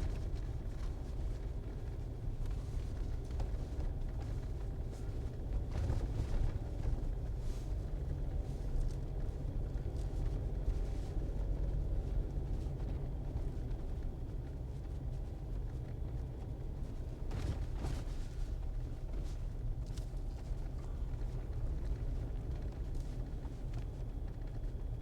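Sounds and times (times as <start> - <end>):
car engine and tyre noise: 0.0 - 25.0.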